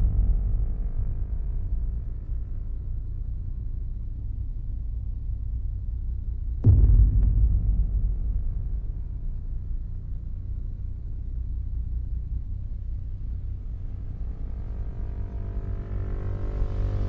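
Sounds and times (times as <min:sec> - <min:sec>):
low droning rumble: 0:00.0 - 0:17.0.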